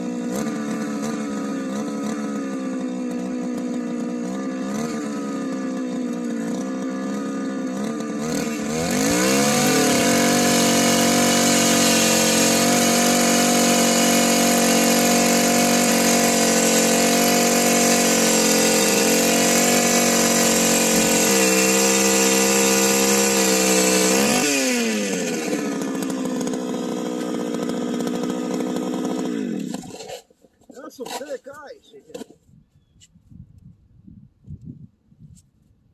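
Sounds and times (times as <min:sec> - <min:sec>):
ice auger engine revving: 0:00.0 - 0:32.3.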